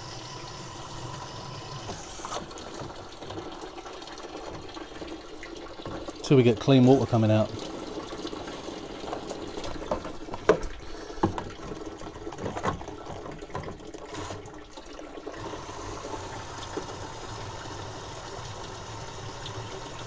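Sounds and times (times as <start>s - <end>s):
water pouring into a bucket: 0.0s - 20.0s.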